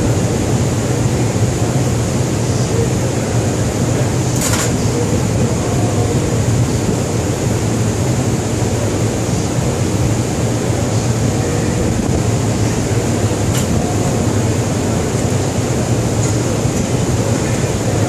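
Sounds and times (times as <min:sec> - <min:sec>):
ship machinery drone: 0:00.0 - 0:18.0.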